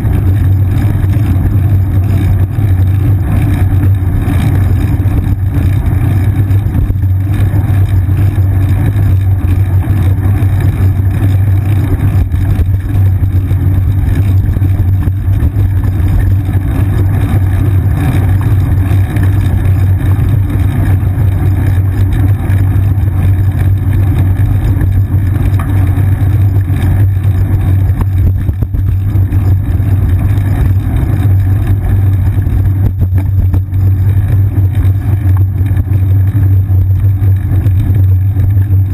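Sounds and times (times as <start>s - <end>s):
bicycle rolling on asphalt: 0.0s - 38.9s.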